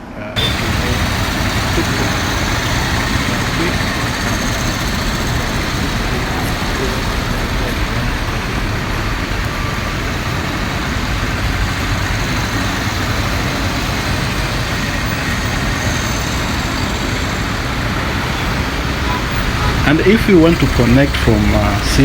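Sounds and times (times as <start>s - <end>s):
tyres on street: 0.0s - 22.0s
vehicle engines: 0.0s - 22.0s.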